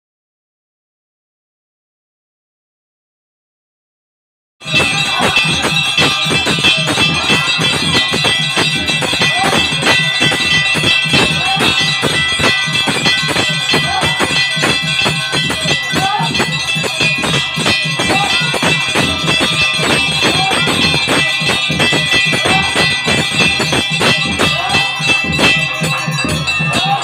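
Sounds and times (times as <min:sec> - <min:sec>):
brass hand bell ringing: 0:04.6 - 0:27.0.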